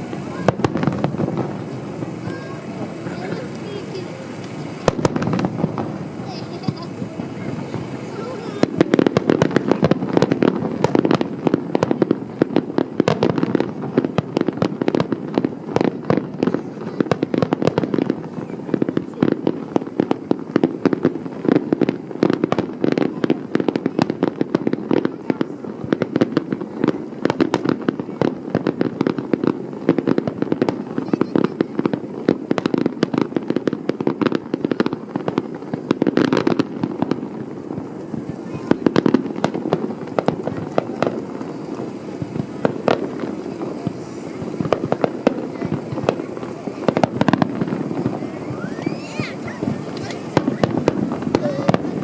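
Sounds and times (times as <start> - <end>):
fireworks bursts and crackles: 0.0 - 52.0.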